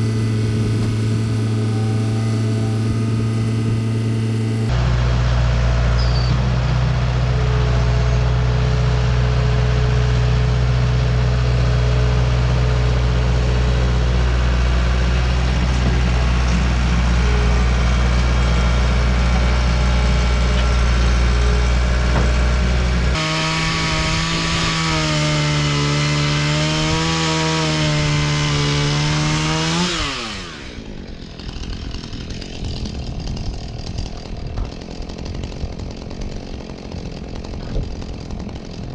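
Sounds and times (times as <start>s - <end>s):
chainsaw engine wavering: 0.0s - 6.0s, 7.0s - 38.9s
engine running steadily: 0.0s - 38.9s.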